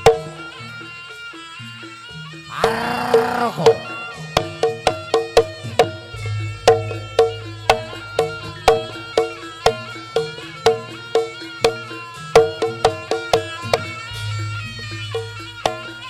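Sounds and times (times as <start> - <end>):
held melody line: 0.0 - 16.0
pitched metal percussion strikes: 0.0 - 16.0.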